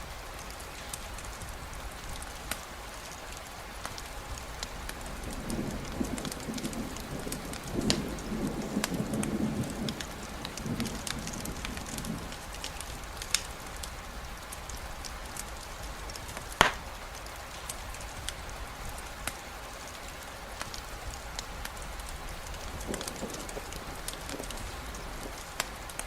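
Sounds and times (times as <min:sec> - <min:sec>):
drips and patters: 0:00.0 - 0:26.0
steady rainfall: 0:00.0 - 0:26.0
distant thunder rumble: 0:03.5 - 0:26.0.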